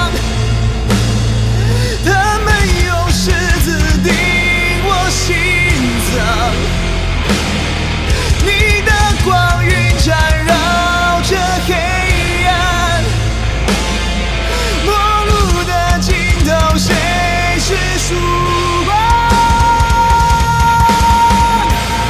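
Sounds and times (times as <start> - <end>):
bass line: 0.0 - 22.0
rock song: 0.0 - 22.0
person singing: 1.6 - 7.4, 8.1 - 22.0.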